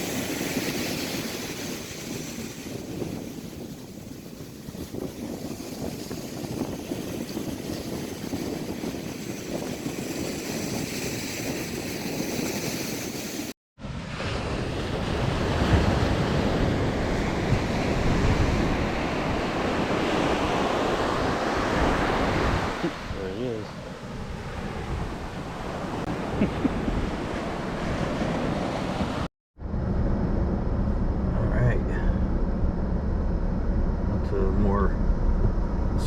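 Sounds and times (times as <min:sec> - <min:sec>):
wind buffeting microphone: 0:00.0 - 0:13.2, 0:14.0 - 0:36.0
ocean surf washing onto beach: 0:00.0 - 0:29.3.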